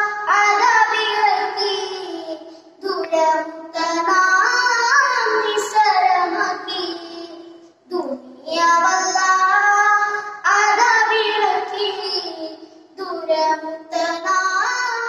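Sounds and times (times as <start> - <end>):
boy singing: 0.0 - 15.0.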